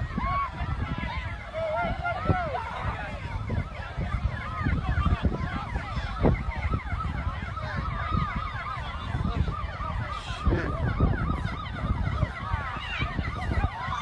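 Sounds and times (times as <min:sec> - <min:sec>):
emergency sirens wailing: 0:00.0 - 0:14.0.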